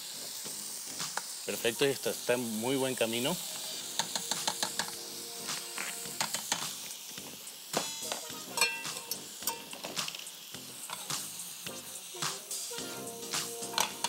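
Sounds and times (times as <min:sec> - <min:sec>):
vegetables sizzling in butter: 0:00.0 - 0:14.0.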